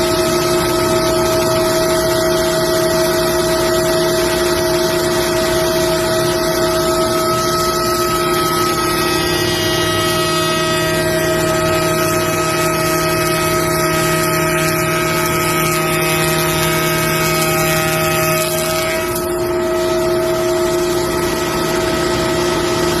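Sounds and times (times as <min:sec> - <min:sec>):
wood shaper machine whine: 0:00.0 - 0:23.0.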